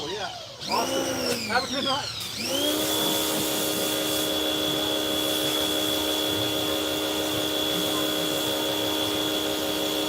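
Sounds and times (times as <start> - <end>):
pressure washer running: 0.0 - 10.0.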